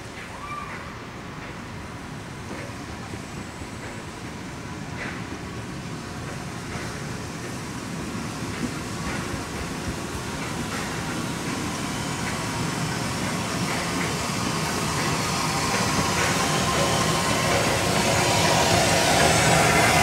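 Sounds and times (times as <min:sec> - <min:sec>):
steam locomotive and coaches running: 0:00.0 - 0:20.0.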